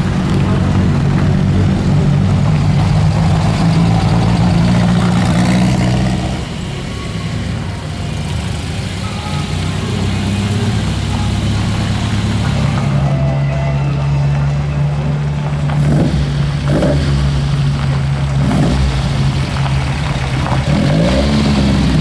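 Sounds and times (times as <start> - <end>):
rally car engine running: 0.0 - 22.0.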